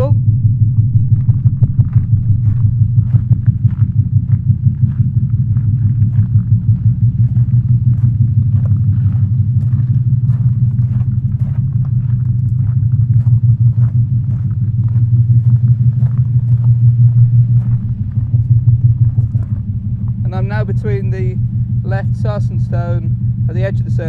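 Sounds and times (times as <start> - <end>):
low hum from loudspeaker: 0.0 - 24.0
faint footsteps: 0.5 - 23.6.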